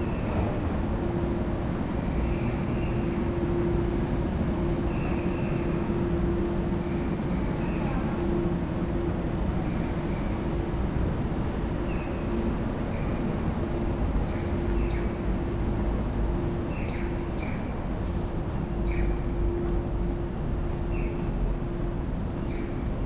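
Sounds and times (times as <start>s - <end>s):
city rumble: 0.0s - 23.0s
steady hum: 0.0s - 23.0s.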